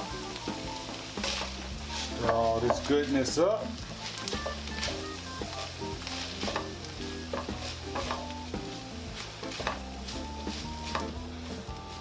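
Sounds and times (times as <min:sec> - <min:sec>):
meat sizzling in a frying pan: 0:00.0 - 0:12.0
utensil scraping a pan: 0:01.1 - 0:12.0.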